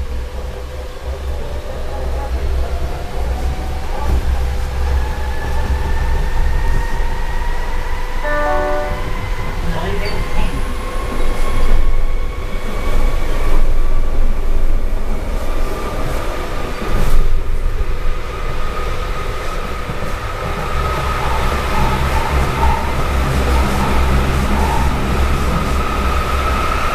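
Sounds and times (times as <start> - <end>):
subway car wheels rumbling on track: 0.0 - 26.9.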